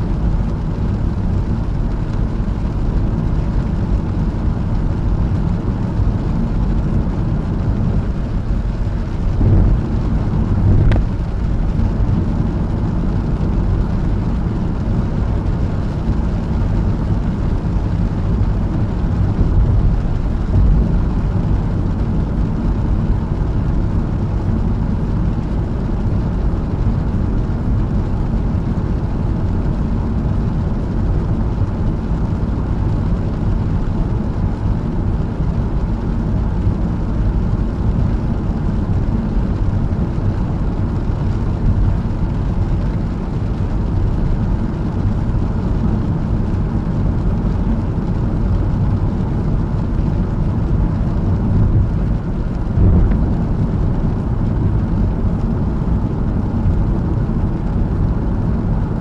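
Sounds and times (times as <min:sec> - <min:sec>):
tyres rumbling on wet road: 0:00.0 - 0:59.0.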